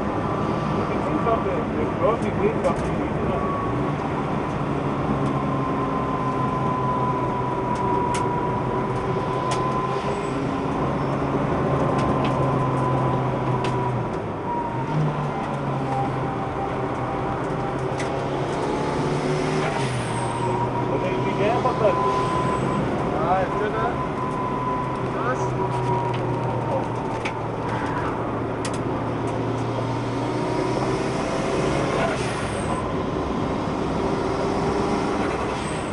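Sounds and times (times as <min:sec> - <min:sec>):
car engine running under load: 0:00.0 - 0:35.9.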